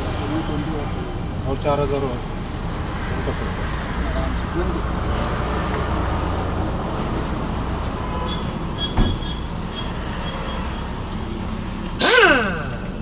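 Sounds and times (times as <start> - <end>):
faint high beeps: 0.0 - 8.6, 9.7 - 13.0.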